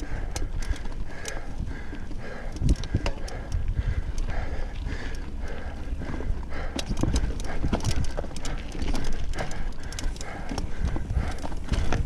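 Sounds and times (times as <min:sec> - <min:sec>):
mountain bike rattling and knocking: 0:00.0 - 0:12.0
rider breathing hard: 0:00.0 - 0:12.0
wind rumbling on microphone: 0:00.0 - 0:12.0.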